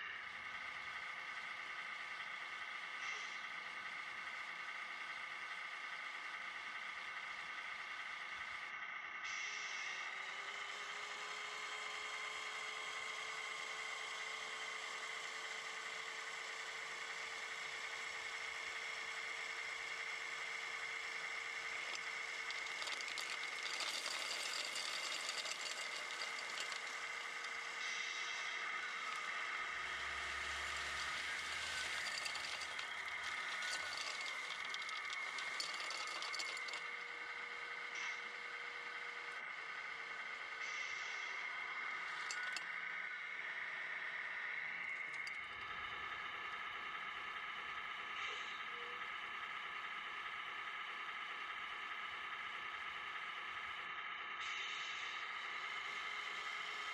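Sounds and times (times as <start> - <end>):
model truck motor whining: 0.0 - 56.9.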